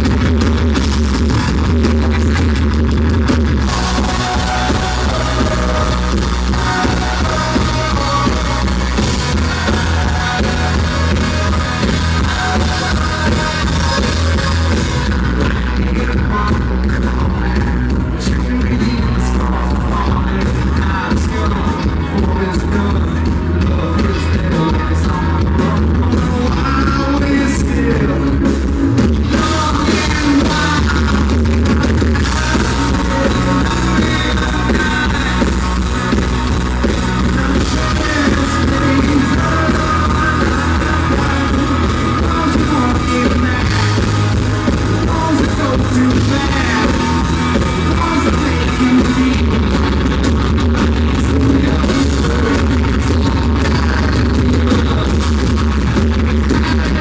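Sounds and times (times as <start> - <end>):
country rock band playing: 0.0 - 57.0
person singing lead vocal: 3.3 - 57.0.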